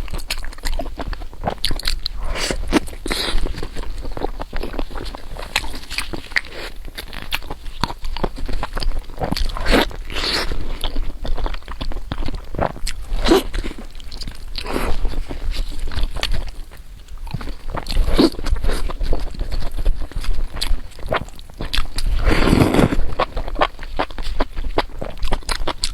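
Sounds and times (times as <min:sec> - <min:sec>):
person chewing crunchy food: 0:00.0 - 0:25.9.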